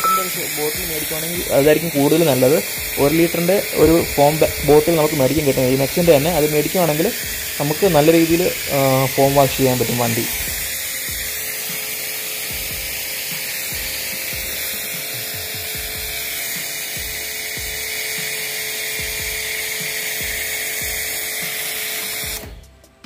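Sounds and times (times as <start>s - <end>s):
pressure washer pump humming: 0.0s - 23.0s
foam lance spraying hiss: 0.2s - 22.5s.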